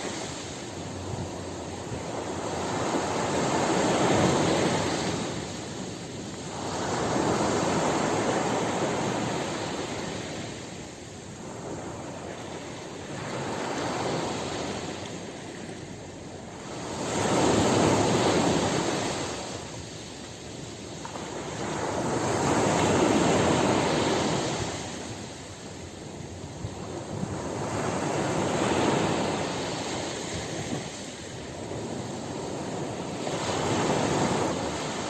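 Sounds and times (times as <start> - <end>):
ocean waves breaking: 0.0 - 35.0.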